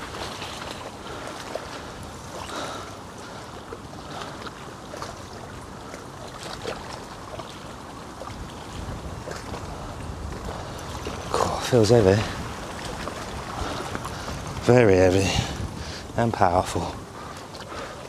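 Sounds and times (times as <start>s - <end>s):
small waves lapping: 0.0s - 18.0s
wind blowing: 0.0s - 18.0s.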